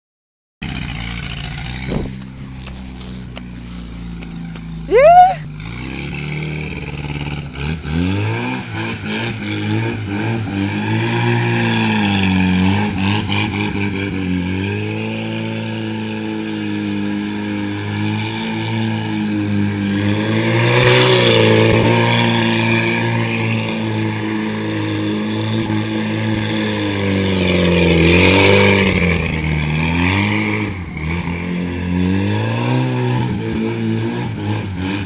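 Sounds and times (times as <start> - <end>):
buggy engine revving: 0.6 - 35.0.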